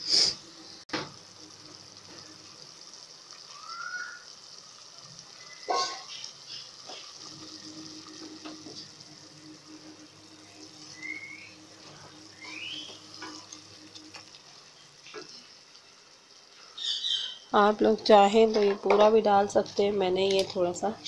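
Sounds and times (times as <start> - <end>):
spices sizzling in oil: 0.0 - 21.0.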